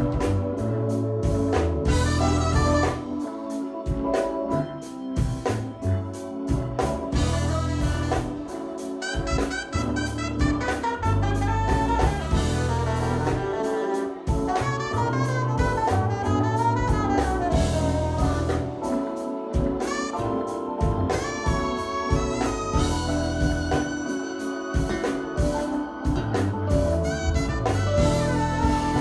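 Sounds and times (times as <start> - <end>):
electric bass: 0.0 - 3.2, 4.4 - 8.5, 9.1 - 19.0, 19.7 - 24.1, 26.1 - 29.0
drum kit: 0.0 - 29.0
keyboards: 0.0 - 29.0
saxophone: 0.0 - 29.0.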